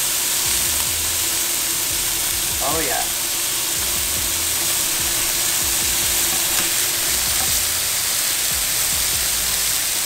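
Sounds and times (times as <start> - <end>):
background music: 0.0 - 10.0
scallops sizzling in oil: 0.0 - 10.0.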